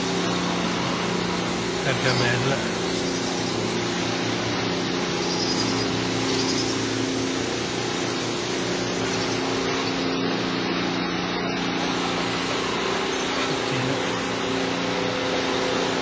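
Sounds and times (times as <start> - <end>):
constant hiss: 0.0 - 16.0
mechanical hum: 0.0 - 16.0.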